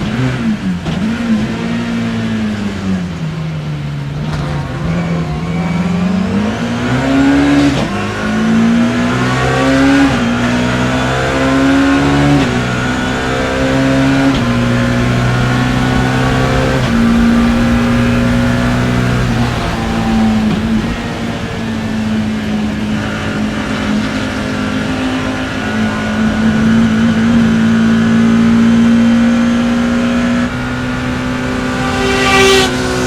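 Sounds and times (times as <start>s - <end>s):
race car engine revving: 0.0s - 33.0s.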